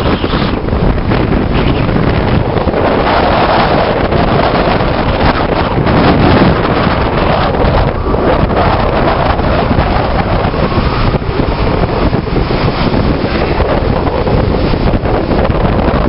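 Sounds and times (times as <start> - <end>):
rough sea waves rushing: 0.0 - 16.0
wind buffeting microphone: 0.0 - 16.0.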